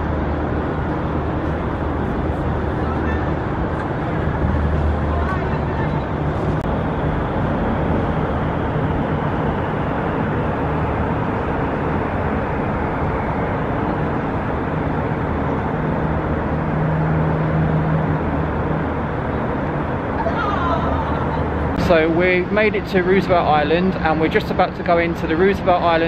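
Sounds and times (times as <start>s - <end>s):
faint engine hum: 0.0s - 26.0s
road traffic rumble: 0.0s - 26.0s.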